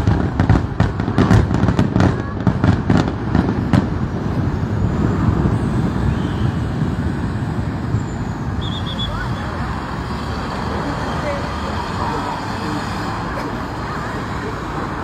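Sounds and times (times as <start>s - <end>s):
fireworks bangs and crackles: 0.0s - 15.0s
road traffic rumble: 0.0s - 15.0s.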